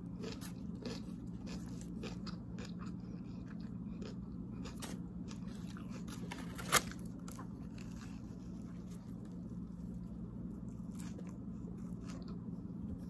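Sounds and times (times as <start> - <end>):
person chewing a sandwich: 0.0 - 13.0
steady low hum: 0.0 - 13.0.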